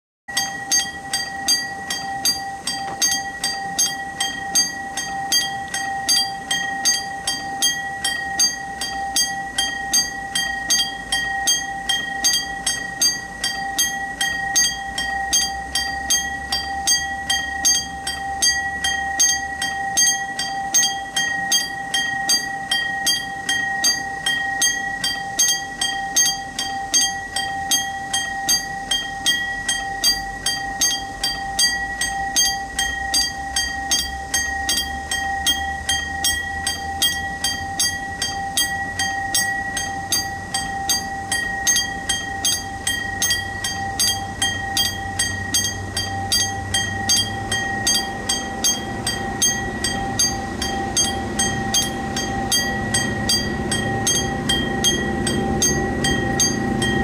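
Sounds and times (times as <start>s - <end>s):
level crossing warning bell: 0.3s - 57.0s
steady electronic tone: 0.3s - 57.0s.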